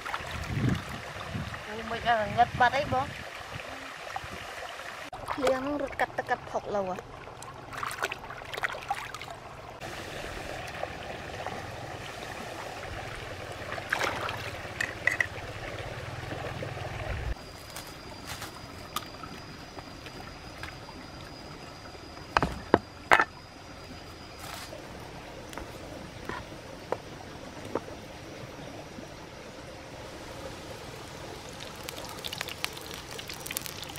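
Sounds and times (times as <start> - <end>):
stream water trickling and splashing: 0.0 - 33.9.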